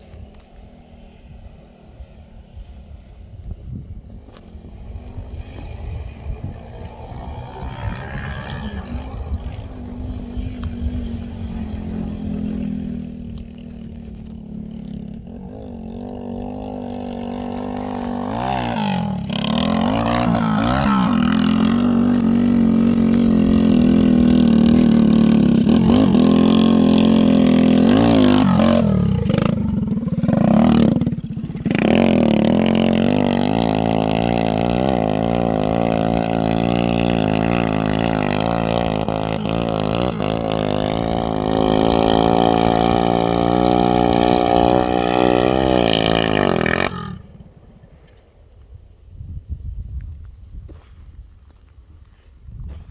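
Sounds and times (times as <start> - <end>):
motorcycle engine running: 0.0 - 48.2.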